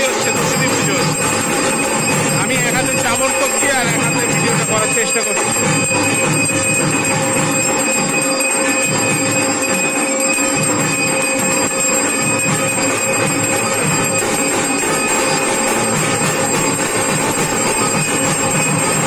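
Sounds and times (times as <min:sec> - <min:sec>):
busy clatter: 0:00.0 - 0:19.0
hand bell ringing: 0:00.0 - 0:19.0.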